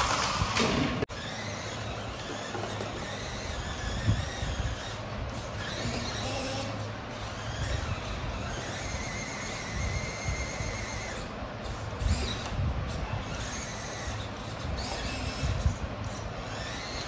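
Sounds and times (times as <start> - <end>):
small electric motors whining: 0.0 - 17.0.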